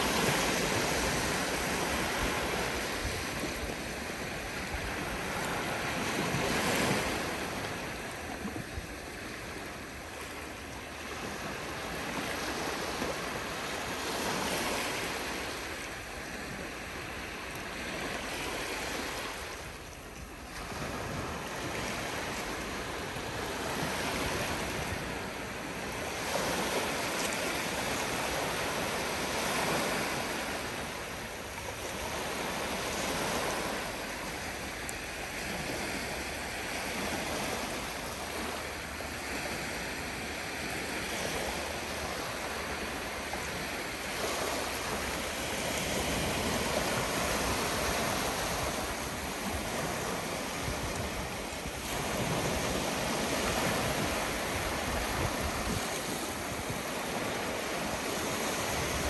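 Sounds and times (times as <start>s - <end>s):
small waves breaking on shore: 0.0s - 59.0s.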